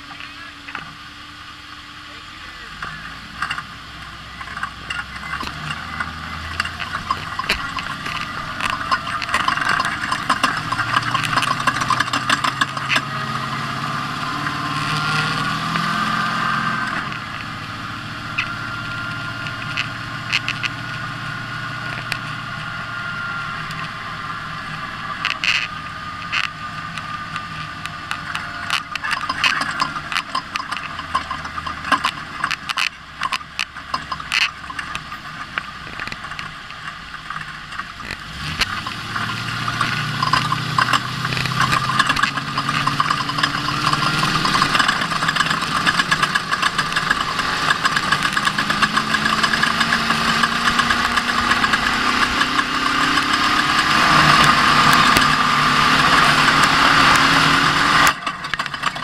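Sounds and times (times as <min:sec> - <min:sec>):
truck engine running at speed: 0:00.0 - 0:59.0
sharp knocks and rattles: 0:02.8 - 0:03.7, 0:04.3 - 0:22.8, 0:23.6 - 0:59.0.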